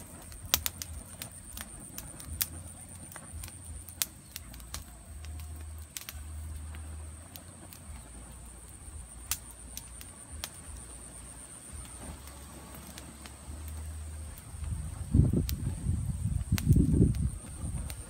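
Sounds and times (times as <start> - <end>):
fire crackling and popping: 0.0 - 18.0
low rumble: 0.0 - 18.0.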